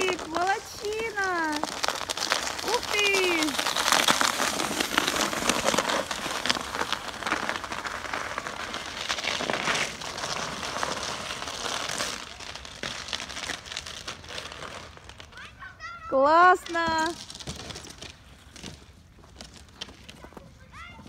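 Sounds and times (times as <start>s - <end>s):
sled scraping over icy snow: 0.0s - 21.0s.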